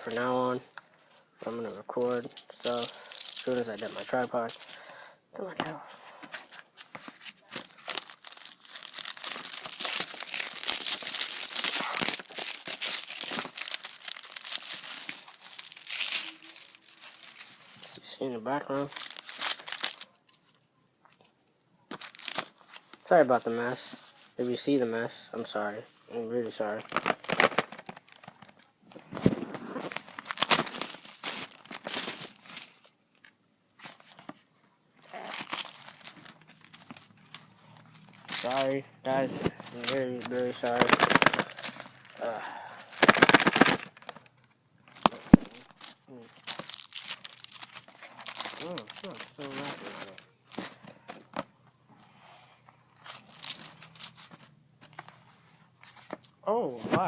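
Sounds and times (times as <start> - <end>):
plastic wrapping crinkling and tearing: 1.4 - 5.0, 6.2 - 20.6, 21.9 - 22.9, 26.4 - 34.4, 35.0 - 51.5, 52.9 - 56.2.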